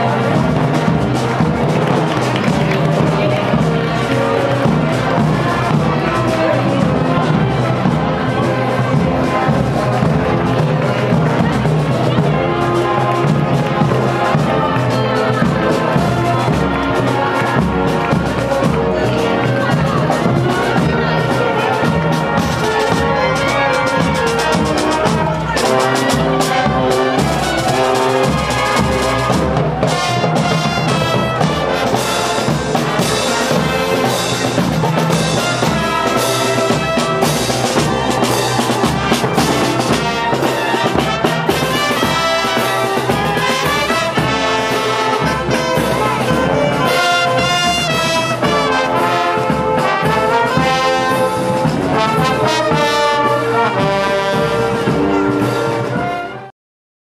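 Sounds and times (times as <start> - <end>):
steady drum beat: 0.0 - 56.1
brass band playing: 0.0 - 56.5.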